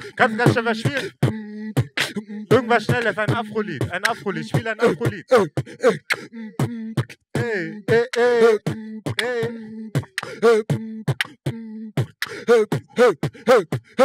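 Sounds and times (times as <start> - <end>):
beatboxing mouth percussion: 0.0 - 14.0.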